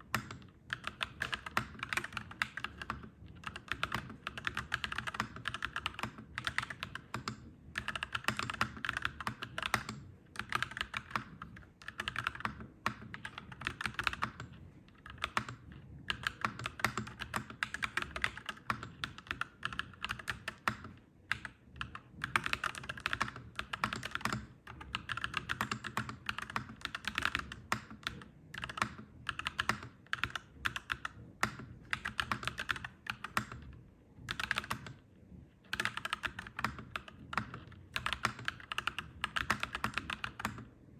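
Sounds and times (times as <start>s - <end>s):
mechanical keyboard typing: 0.0s - 35.0s, 35.6s - 40.8s.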